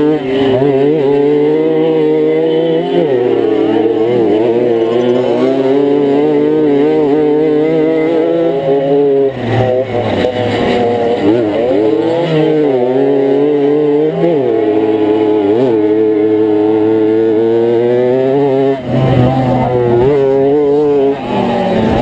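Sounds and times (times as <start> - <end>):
moped engine at high revs: 0.0 - 22.0.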